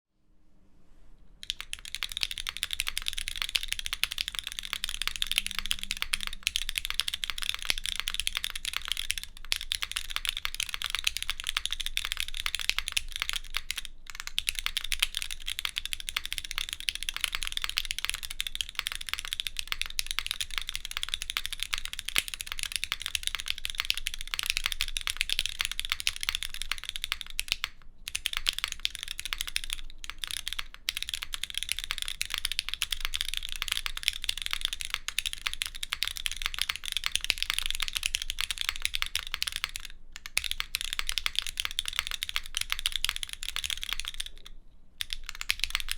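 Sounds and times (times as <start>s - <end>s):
fast typing on mechanical keyboard: 1.4s - 45.9s.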